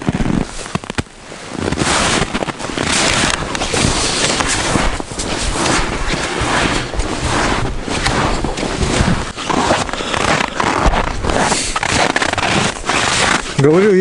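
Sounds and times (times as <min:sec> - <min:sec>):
footsteps crunching through snow: 0:00.0 - 0:14.0
wind rumbling on microphone: 0:00.0 - 0:14.0.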